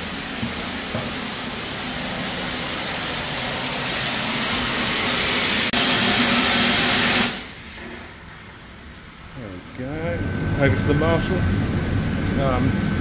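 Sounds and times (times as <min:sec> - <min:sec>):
steam hissing: 0:00.0 - 0:08.0, 0:09.5 - 0:13.0.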